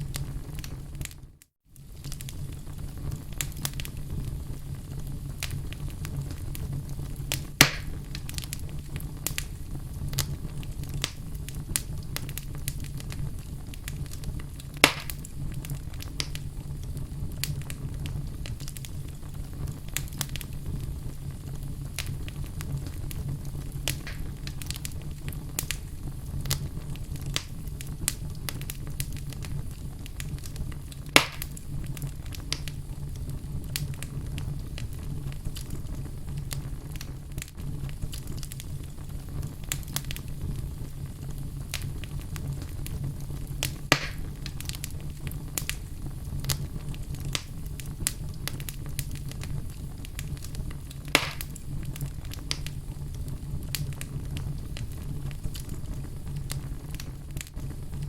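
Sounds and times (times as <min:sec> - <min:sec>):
loud pops of fire: 0:00.0 - 0:01.2, 0:01.8 - 0:58.0
wood fire crackling: 0:00.0 - 0:58.0.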